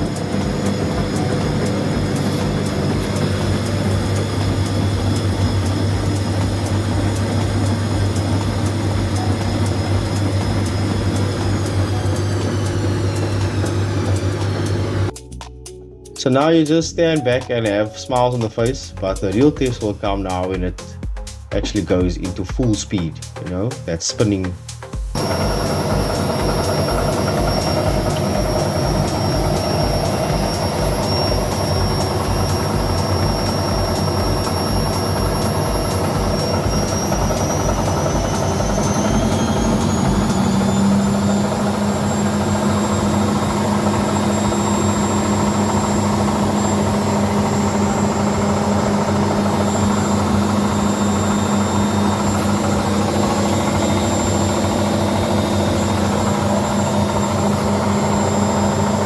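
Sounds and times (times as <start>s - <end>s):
washing machine spinning: 0.0s - 15.2s, 24.9s - 59.0s.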